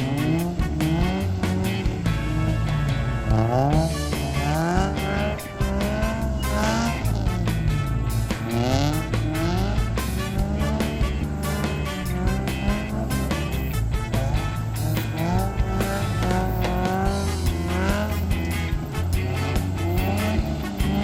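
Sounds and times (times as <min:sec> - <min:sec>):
background music with beat: 0:00.0 - 0:21.0
car engine revving: 0:00.0 - 0:21.0.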